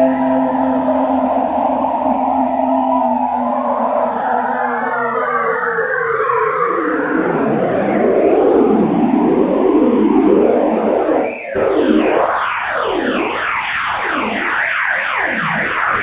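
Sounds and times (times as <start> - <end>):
synthesized tones sweeping: 0.0 - 14.3
wavering noisy drone: 0.0 - 16.0.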